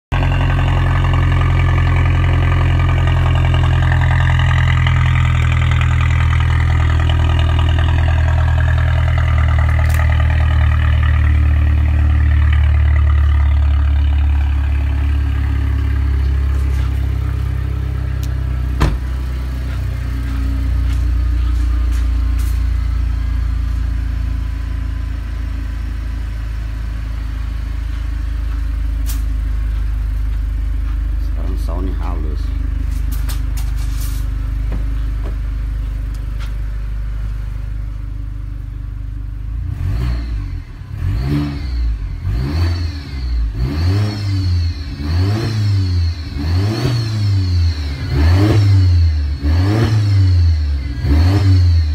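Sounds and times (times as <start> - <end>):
car engine idling: 0.1 - 51.9.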